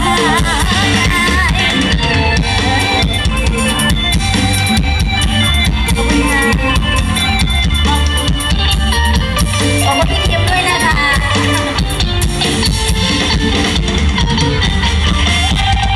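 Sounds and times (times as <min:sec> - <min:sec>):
drum kit beat: 0:00.0 - 0:15.9
heavy bass line: 0:00.0 - 0:15.9
live band music: 0:00.0 - 0:15.9.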